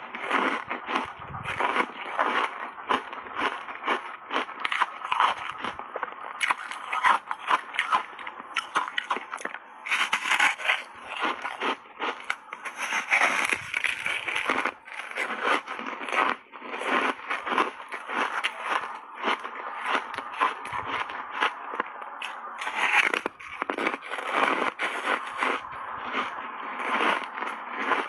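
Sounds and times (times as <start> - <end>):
crunching and chewing ice: 0.0 - 28.0.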